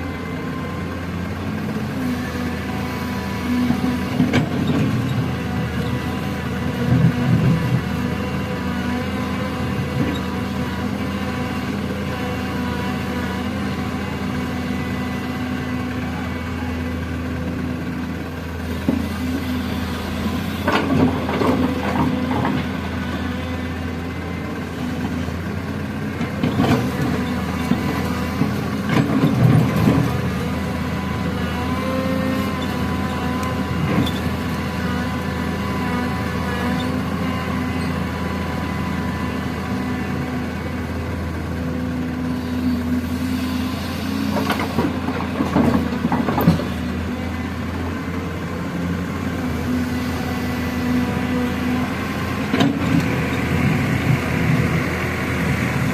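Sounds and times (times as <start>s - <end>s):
excavator engine running: 0.0s - 55.9s.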